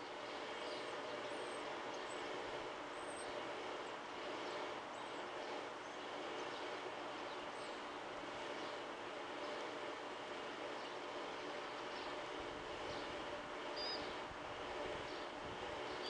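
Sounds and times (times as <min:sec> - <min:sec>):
small birds chirping: 0:00.1 - 0:09.8, 0:10.5 - 0:16.0.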